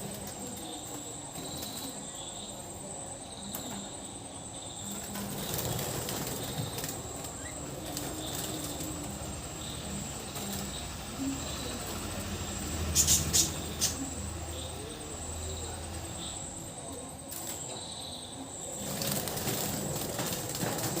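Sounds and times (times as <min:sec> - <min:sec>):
birds wings flapping in cage: 0:00.0 - 0:02.5, 0:04.8 - 0:21.0.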